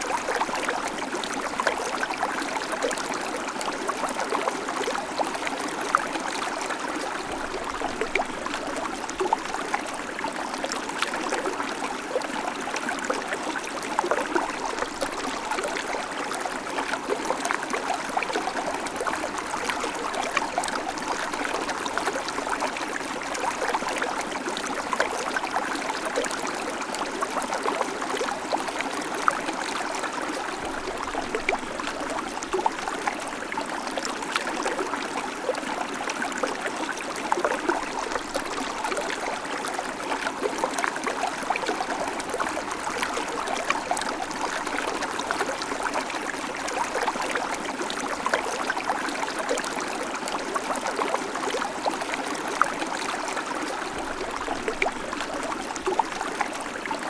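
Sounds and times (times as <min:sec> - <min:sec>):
creek water burbling over rocks: 0:00.0 - 0:57.0.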